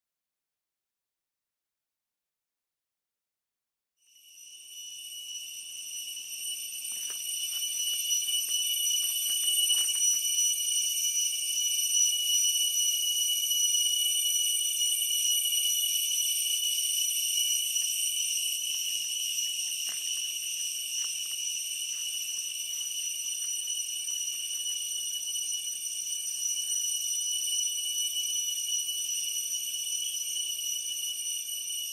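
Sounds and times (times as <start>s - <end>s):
insect chorus trilling: 4.0s - 31.9s.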